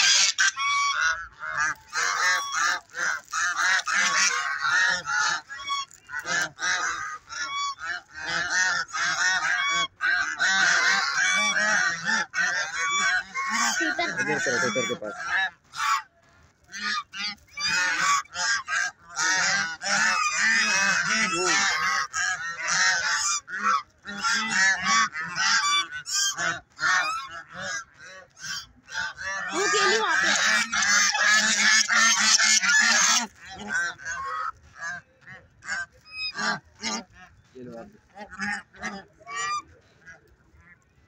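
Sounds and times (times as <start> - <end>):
geese honking: 0.0 - 41.0.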